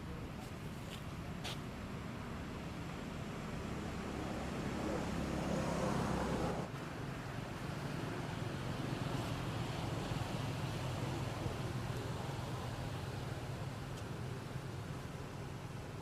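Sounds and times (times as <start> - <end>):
background rumble and hiss: 0.0 - 5.4, 6.2 - 16.0.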